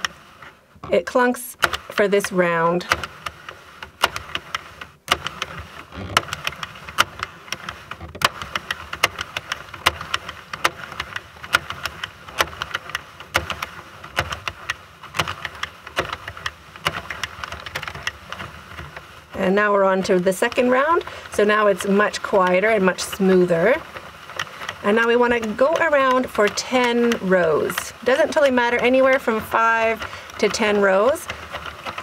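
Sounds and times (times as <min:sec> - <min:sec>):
knitting machine clicking and clunking: 0:00.0 - 0:32.0.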